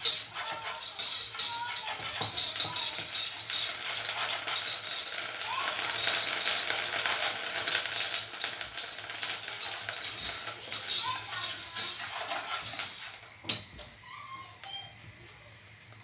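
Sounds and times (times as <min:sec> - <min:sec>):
rice grains rattling in a pot: 0:00.0 - 0:14.2.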